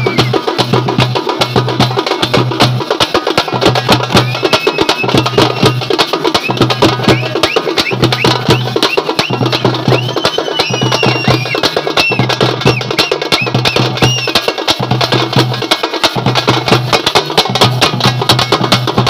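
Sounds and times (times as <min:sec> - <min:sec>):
drum band playing fast rhythm: 0:00.0 - 0:19.0.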